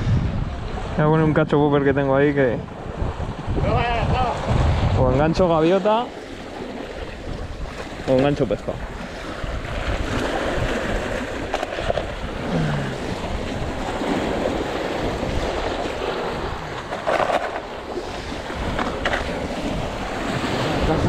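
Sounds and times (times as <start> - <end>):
sea surf against rocks: 0.0 - 21.0
wind buffeting microphone: 0.0 - 21.0.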